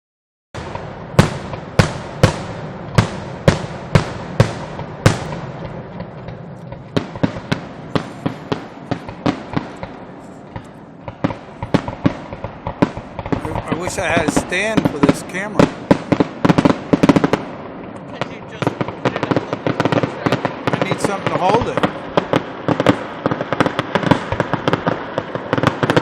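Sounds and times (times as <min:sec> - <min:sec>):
fireworks booming: 0:00.6 - 0:26.0
fireworks popping and crackling: 0:00.6 - 0:26.0.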